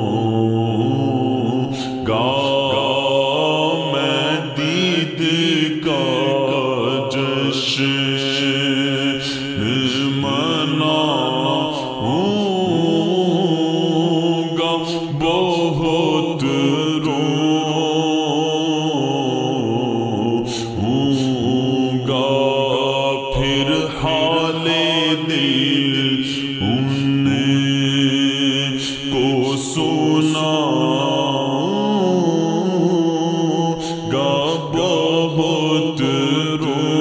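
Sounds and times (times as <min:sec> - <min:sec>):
person singing devotional lines: 0:00.0 - 0:37.0.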